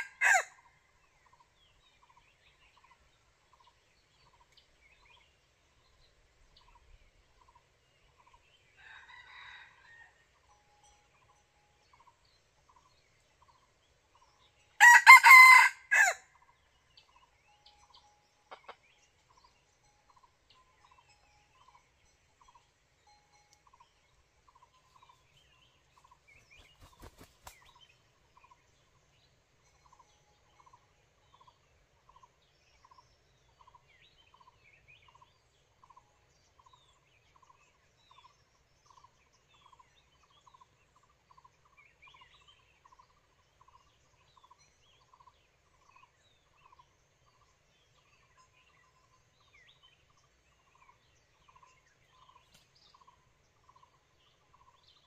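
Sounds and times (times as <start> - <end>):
small birds chirping: 0.0 - 9.6, 16.2 - 55.0.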